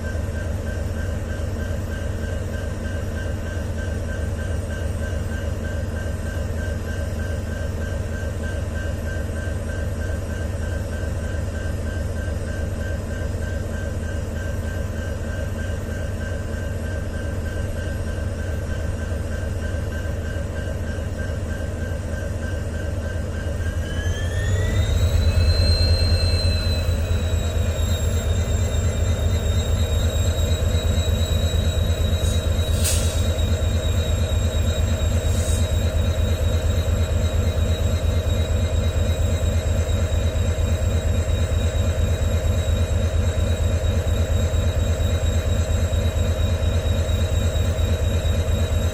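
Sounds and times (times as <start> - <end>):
diesel locomotive engine idling: 0.0 - 48.9
high-pitched engine whine: 0.0 - 48.9.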